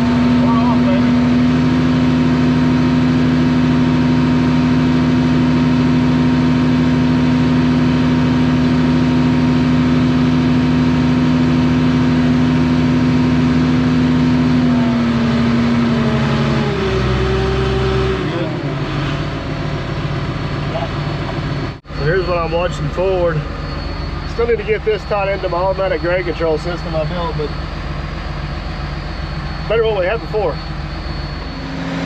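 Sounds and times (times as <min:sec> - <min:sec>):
bulldozer diesel engine under load: 0:00.0 - 0:32.0.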